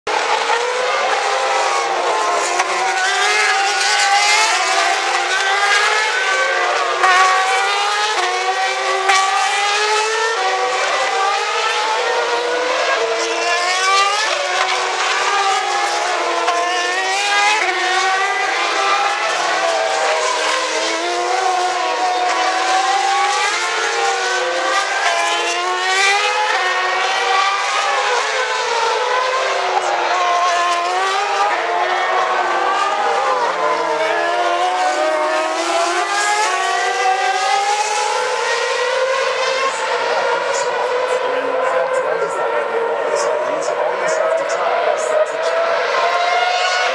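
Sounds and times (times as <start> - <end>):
racing cars passing: 0.1 - 46.9.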